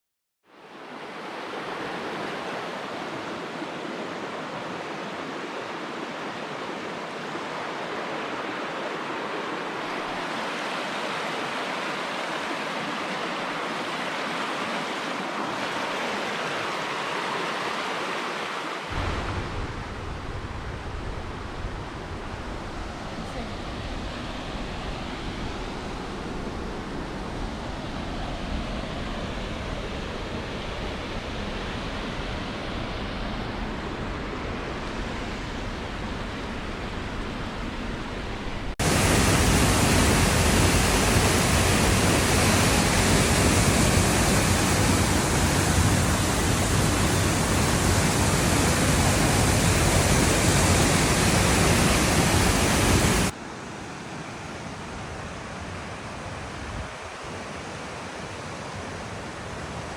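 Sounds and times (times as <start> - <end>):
rushing water: 0.4 - 59.9.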